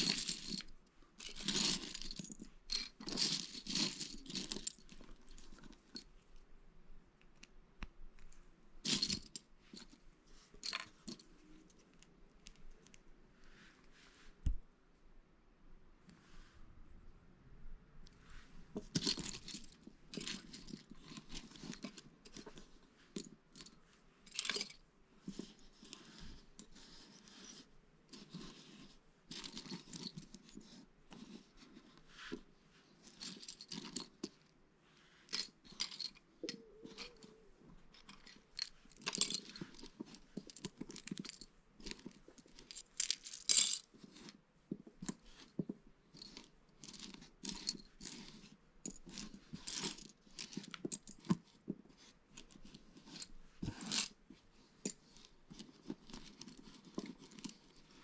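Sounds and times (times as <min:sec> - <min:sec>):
parts rustling: 0:00.0 - 0:06.1, 0:08.2 - 0:13.0, 0:18.6 - 0:34.5, 0:35.2 - 0:58.0.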